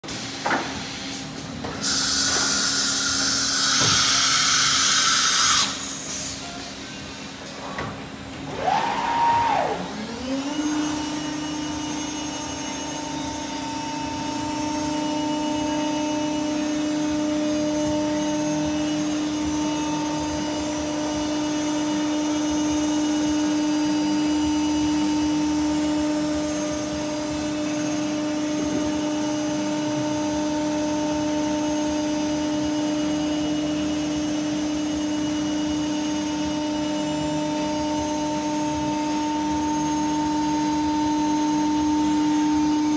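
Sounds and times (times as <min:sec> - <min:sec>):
router spindle motor whining: 0:08.5 - 0:42.9.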